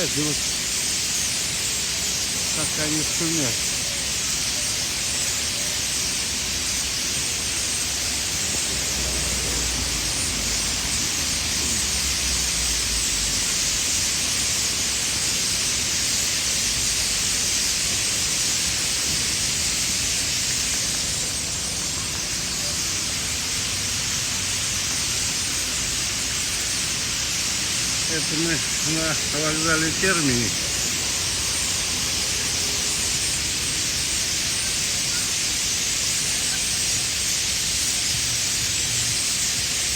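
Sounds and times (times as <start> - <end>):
huge flock of birds chattering: 0.0 - 39.9.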